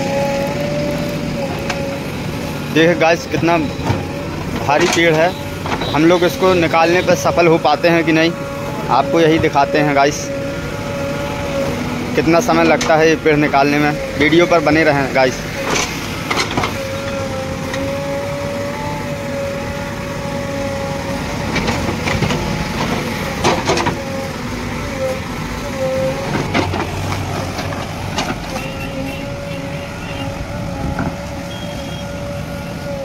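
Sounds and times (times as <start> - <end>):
diesel engine whining under load: 0.0 - 33.0.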